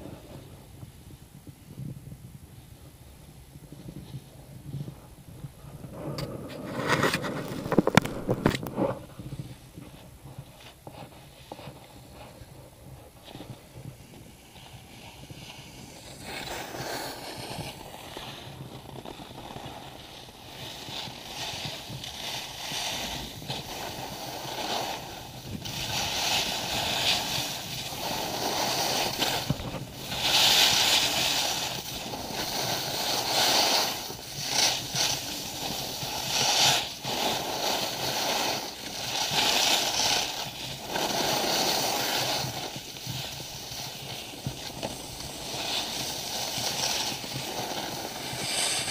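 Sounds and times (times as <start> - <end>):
skis carving on snow: 0.0 - 0.6, 3.8 - 48.9.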